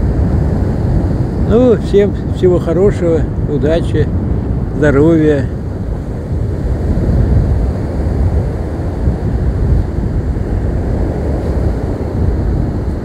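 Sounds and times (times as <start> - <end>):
waves breaking on shore: 0.0 - 13.0
wind buffeting microphone: 0.0 - 13.0.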